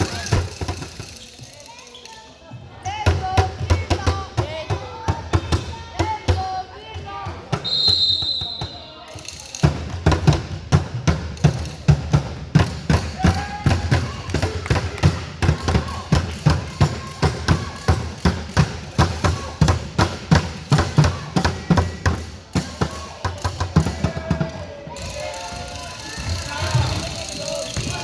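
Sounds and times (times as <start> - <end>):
voices: 0.0 - 9.7, 12.9 - 28.0.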